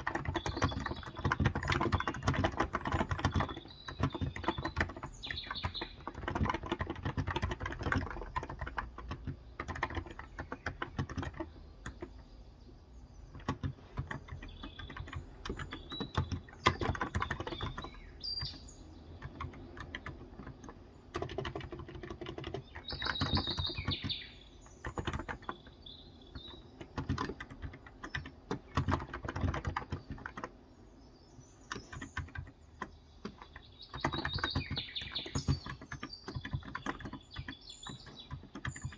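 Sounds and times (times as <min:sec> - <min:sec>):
keyboard typing: 0:00.0 - 0:30.7, 0:31.4 - 0:38.9
birds chirping: 0:00.0 - 0:38.9.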